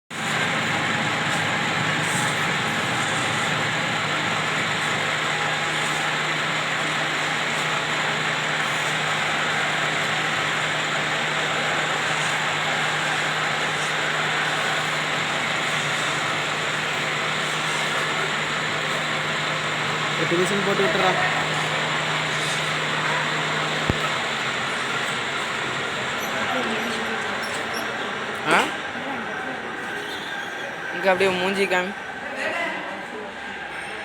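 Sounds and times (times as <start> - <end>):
lathe running: 0.1 - 32.4.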